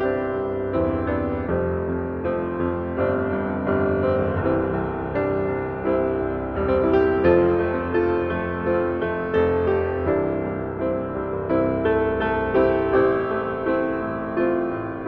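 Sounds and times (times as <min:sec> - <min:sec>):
solo piano prelude: 0:00.0 - 0:15.0.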